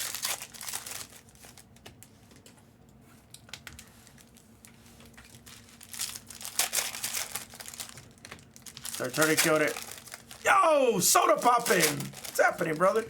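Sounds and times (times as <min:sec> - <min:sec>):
foil wrappers crinkling: 0:00.0 - 0:02.4, 0:03.7 - 0:13.0
low steady hum: 0:00.0 - 0:13.0.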